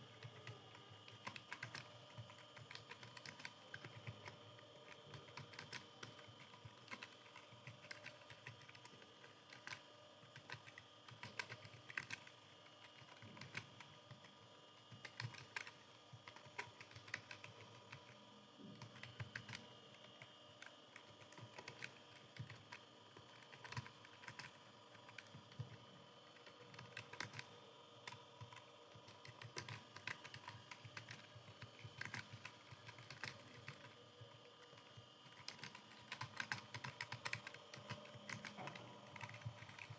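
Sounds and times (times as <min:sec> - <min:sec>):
keyboard typing clicks: 0:00.0 - 0:39.9.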